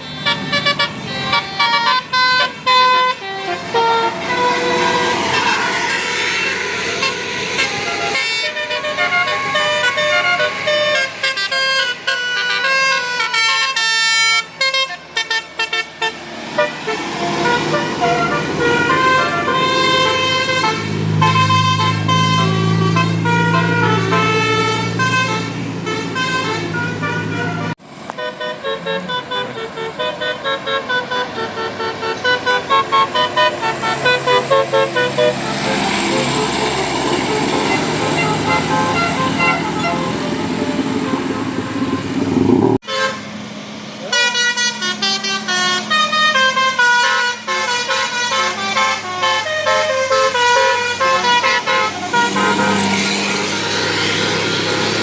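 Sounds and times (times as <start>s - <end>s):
bus engine running: 0.0s - 55.0s
bus musical horn melodies: 0.0s - 55.0s.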